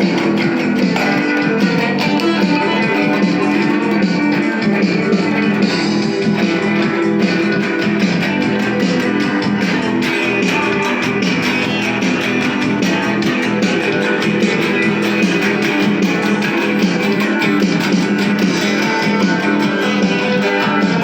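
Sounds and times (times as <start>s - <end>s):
plucked guitar music: 0.0s - 21.0s.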